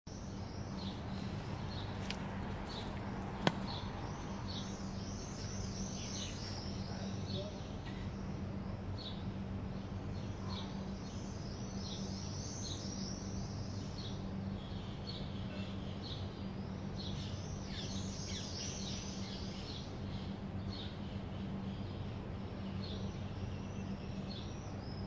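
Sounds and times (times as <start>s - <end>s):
small birds chirping: 0.1s - 25.0s
steady low hum: 0.1s - 25.0s.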